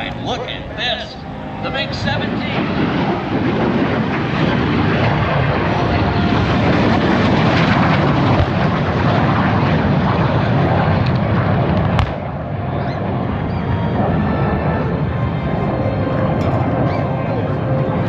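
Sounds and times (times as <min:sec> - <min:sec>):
jet fighter low pass: 0:00.0 - 0:18.0.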